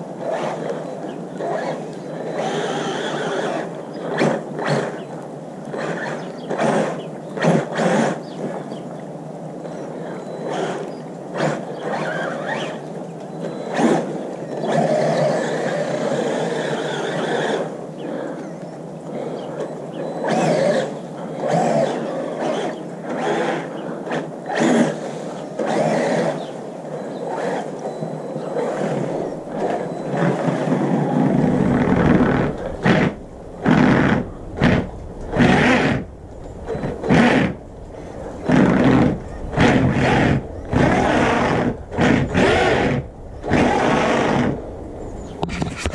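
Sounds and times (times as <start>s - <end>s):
tyres churning through snow: 0.0s - 5.1s, 5.7s - 8.8s, 9.7s - 18.4s, 19.1s - 45.9s
electric motor whining: 0.0s - 8.7s, 9.6s - 45.9s.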